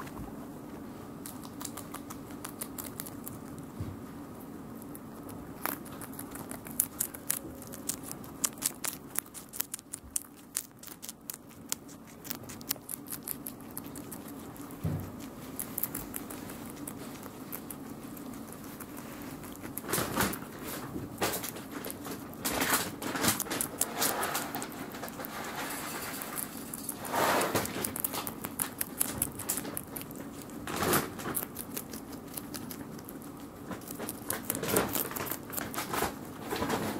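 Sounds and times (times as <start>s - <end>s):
guinea pigs crunching vegetables: 0.0s - 36.9s
rustling: 4.8s - 36.9s.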